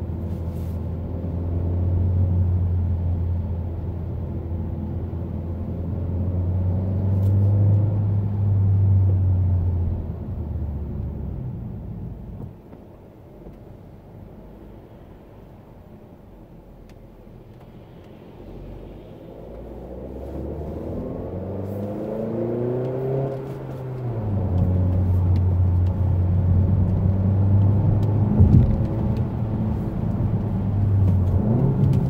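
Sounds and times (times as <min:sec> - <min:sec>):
car engine drone: 0:00.0 - 0:32.0
road noise: 0:00.0 - 0:32.0.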